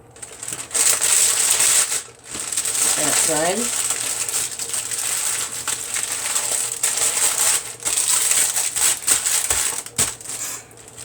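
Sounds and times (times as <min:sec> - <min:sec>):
sandwich wrapping crinkling: 0:00.0 - 0:11.0.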